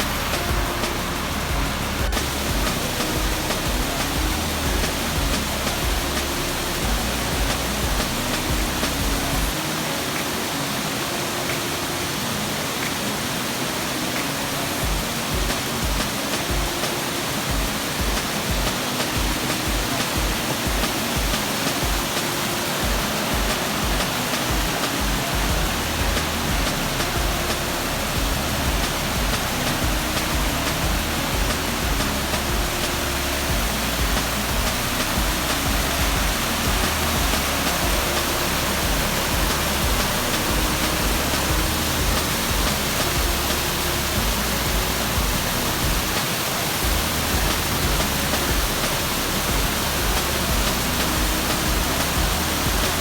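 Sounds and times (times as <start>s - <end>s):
melodic music with pulsing beat: 0.0s - 53.0s
waterfall rushing: 0.0s - 53.0s.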